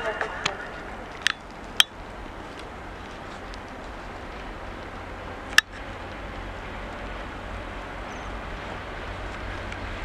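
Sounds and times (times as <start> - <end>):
distant freight train rumble: 0.0 - 10.0.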